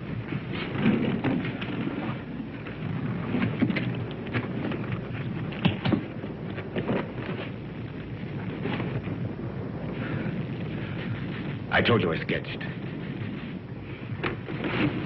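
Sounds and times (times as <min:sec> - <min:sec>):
distant artillery shelling rumble: 0:00.0 - 0:15.0.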